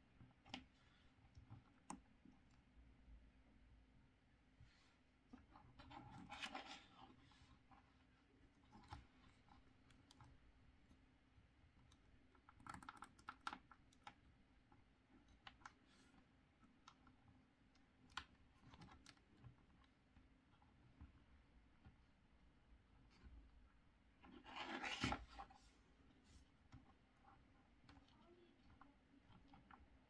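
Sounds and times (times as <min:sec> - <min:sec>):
faint plastic clicks and rubbing: 0:00.0 - 0:30.0.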